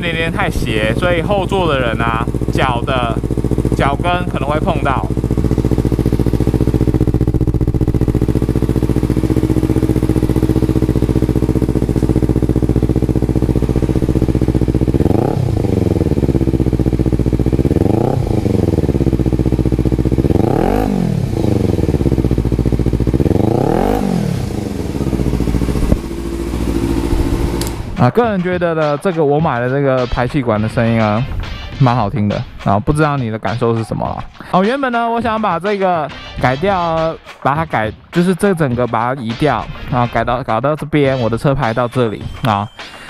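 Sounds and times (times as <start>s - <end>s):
motorcycle engine idling and revving: 0.0s - 37.2s.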